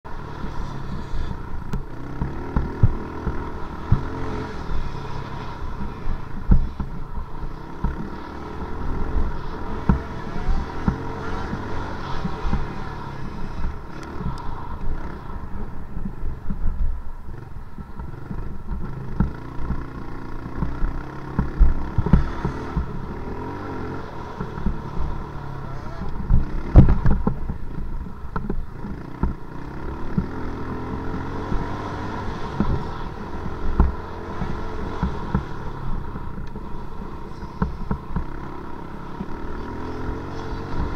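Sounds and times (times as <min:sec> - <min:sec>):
off-road vehicle engine running: 0:00.0 - 0:40.9
knocks and rattles over rough dirt: 0:00.1 - 0:40.9.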